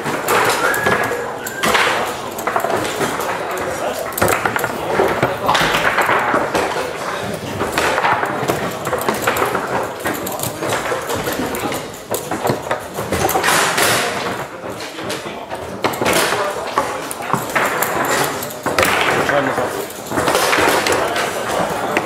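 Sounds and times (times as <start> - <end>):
foosball clacks and knocks: 0.0 - 22.0
people talking: 0.0 - 22.0.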